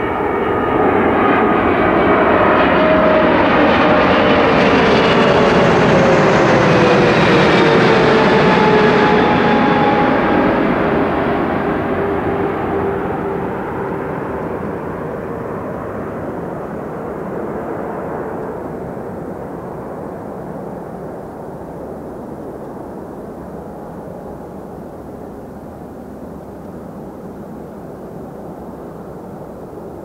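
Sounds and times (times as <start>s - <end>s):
jet engine rumble: 0.0s - 30.0s.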